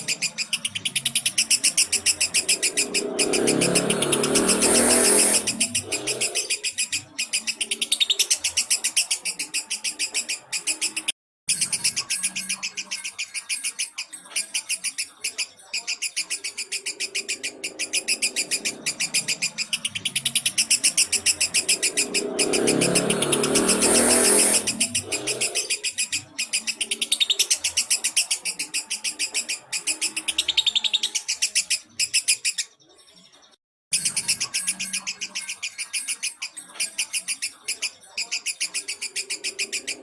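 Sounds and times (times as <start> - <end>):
bird chattering trill: 0.0 - 32.7, 34.0 - 40.0.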